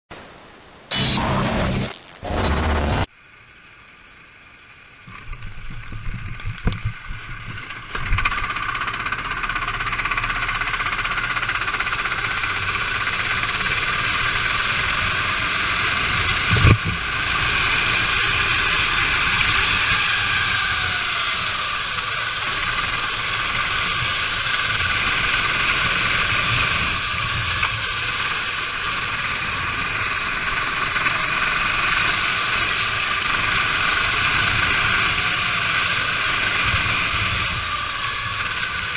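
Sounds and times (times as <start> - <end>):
go-kart engine running: 6.2 - 38.9.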